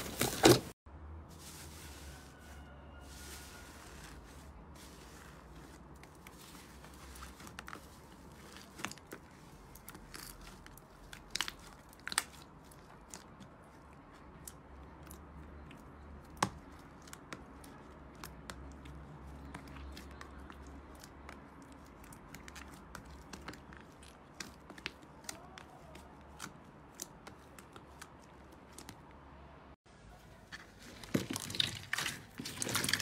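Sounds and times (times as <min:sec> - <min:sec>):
slime squishing: 0:01.4 - 0:29.2, 0:30.5 - 0:33.0.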